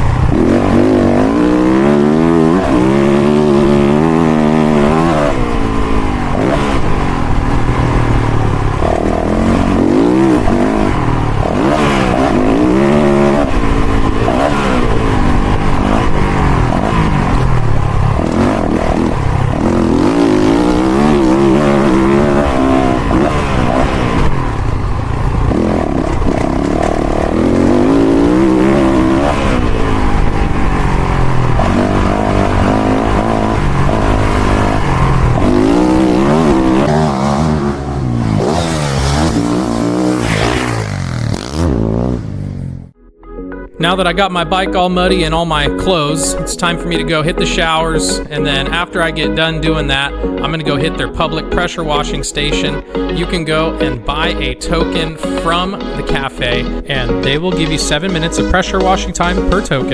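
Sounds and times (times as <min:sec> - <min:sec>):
dirt bike engine revving: 0:00.0 - 0:43.0, 0:43.8 - 0:59.9.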